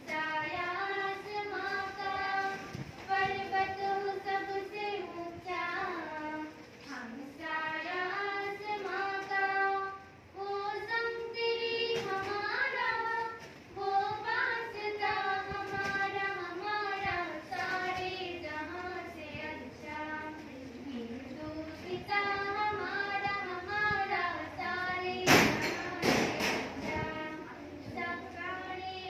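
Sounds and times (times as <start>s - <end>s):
girl singing slow melody: 0.0s - 29.0s.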